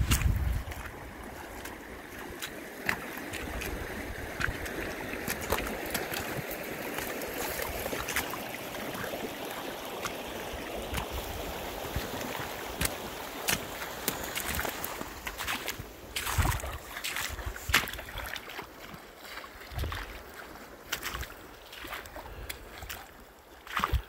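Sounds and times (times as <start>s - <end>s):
river running: 0.0s - 24.0s.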